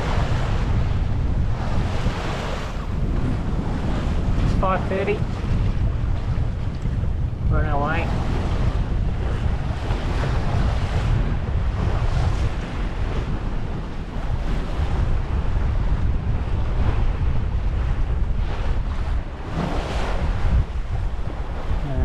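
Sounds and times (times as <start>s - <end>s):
sea wash: 0.0s - 22.0s
wind buffeting microphone: 0.0s - 22.0s.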